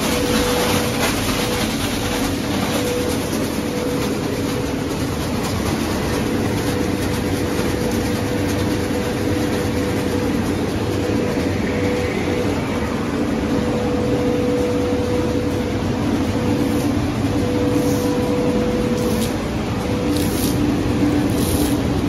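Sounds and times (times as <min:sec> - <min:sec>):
held hum tones: 0:00.0 - 0:22.0
machinery and conveyor running: 0:00.0 - 0:22.0.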